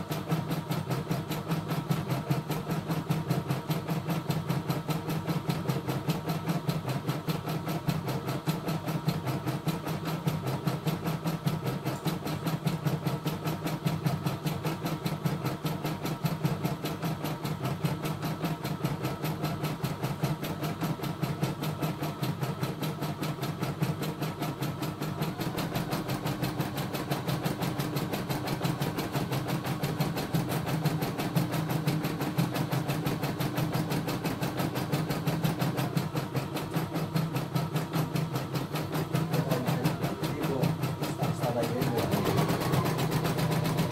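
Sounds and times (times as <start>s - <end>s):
embroidery machine stitching: 0.0s - 43.9s.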